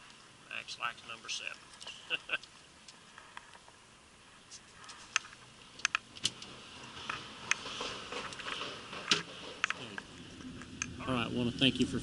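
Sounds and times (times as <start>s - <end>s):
rustling: 1.0s - 11.0s.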